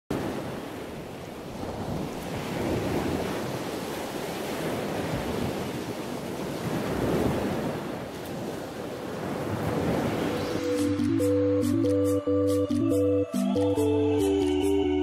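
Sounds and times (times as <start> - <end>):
ocean waves washing: 0.1 - 14.7.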